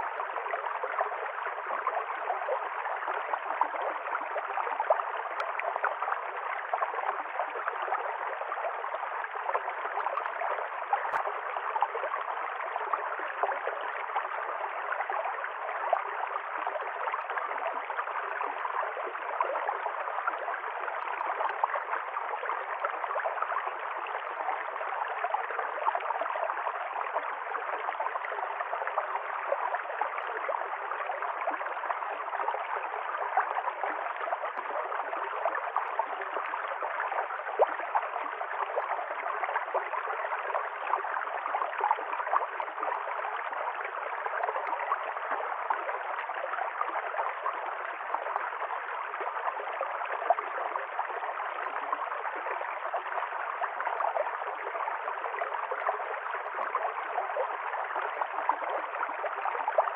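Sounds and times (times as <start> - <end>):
stream flowing and gurgling: 0.0 - 59.9.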